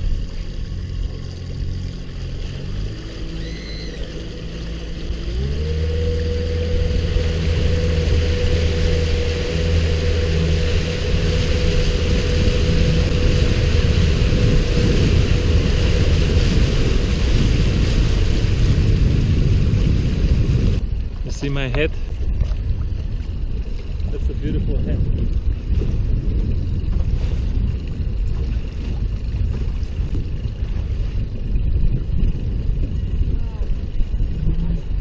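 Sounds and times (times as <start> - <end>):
outboard motor running: 0.0 - 35.0
rushing water: 0.0 - 35.0
wind noise: 0.0 - 35.0.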